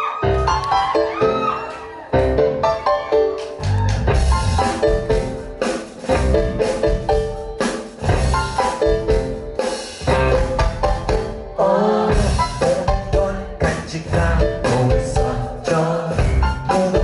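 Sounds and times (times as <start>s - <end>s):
pop-rock band playing live: 0.0s - 17.0s
drum kit: 0.2s - 17.0s.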